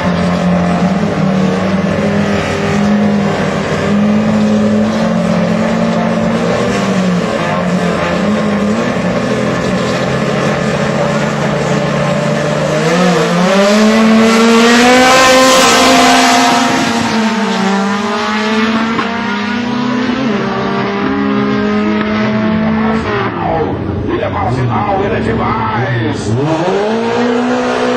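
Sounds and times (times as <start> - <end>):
racing car engines running hard: 0.0 - 27.9.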